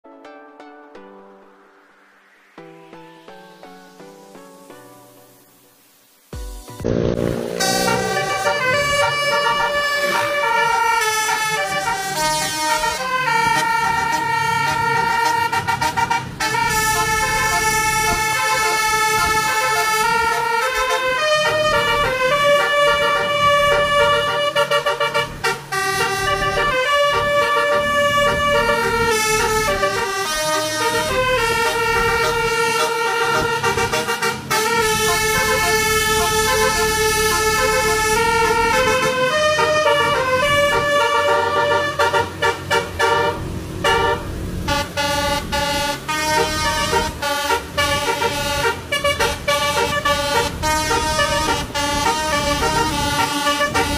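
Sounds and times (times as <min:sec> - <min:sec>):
multi-tone air horn tune: 0:06.8 - 0:53.9.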